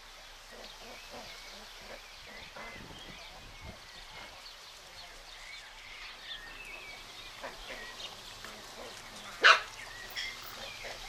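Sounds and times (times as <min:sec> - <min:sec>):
low outdoor background: 0:00.0 - 0:11.0.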